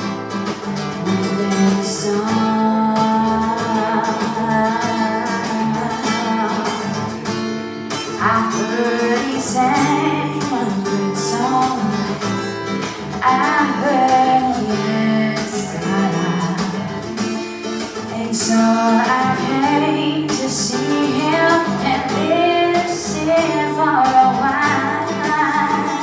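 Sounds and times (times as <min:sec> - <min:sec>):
acoustic guitar strumming: 0:00.0 - 0:26.0
person singing: 0:00.9 - 0:07.3, 0:08.0 - 0:26.0.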